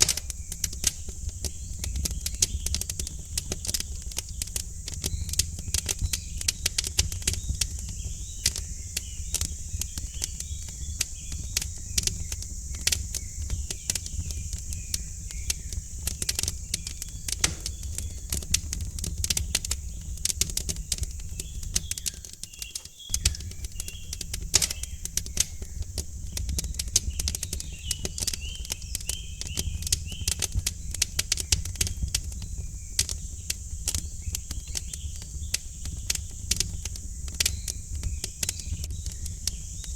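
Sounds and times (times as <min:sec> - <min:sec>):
faint birds chirping: 0:00.0 - 0:39.9
wood fire crackling and popping: 0:00.0 - 0:39.9.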